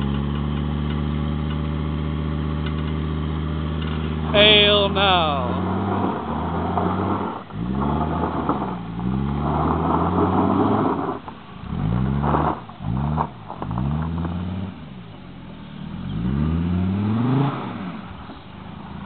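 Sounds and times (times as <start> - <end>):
diesel engine revving: 0.0 - 19.0.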